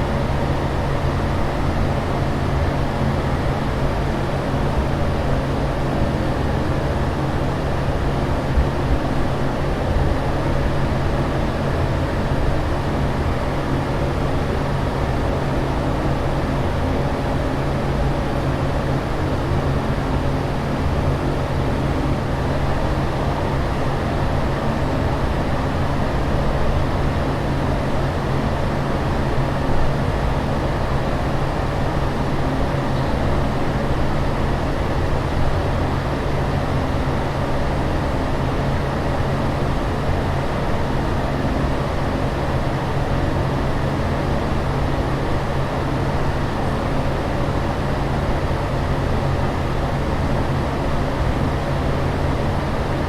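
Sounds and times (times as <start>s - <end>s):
constant low hum: 0.0s - 53.0s.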